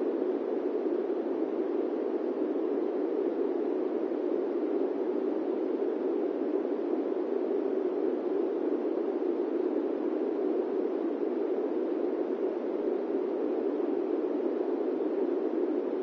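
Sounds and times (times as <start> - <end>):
airplane cabin white noise: 0.0 - 16.0.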